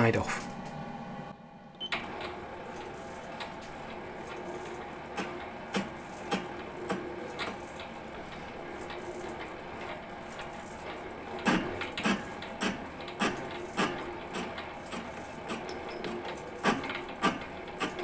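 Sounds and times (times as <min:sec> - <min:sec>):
lathe motor hum: 0:00.0 - 0:18.0.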